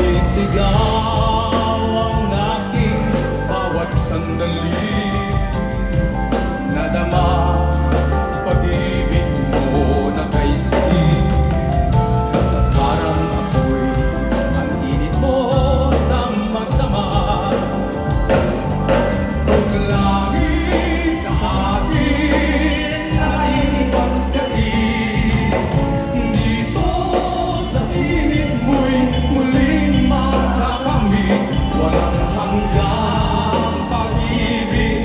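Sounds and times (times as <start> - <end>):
backing vocalists singing: 0.0 - 35.0
drums: 0.0 - 35.0
guitar: 0.0 - 35.0
keyboards: 0.0 - 35.0
man singing into microphone: 0.0 - 35.0.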